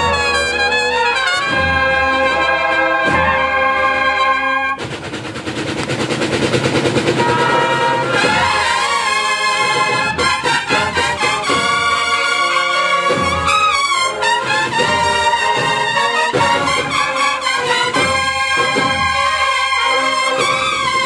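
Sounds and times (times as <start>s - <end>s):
brass band chords: 0.0s - 21.0s
rapid drum roll: 0.0s - 21.0s.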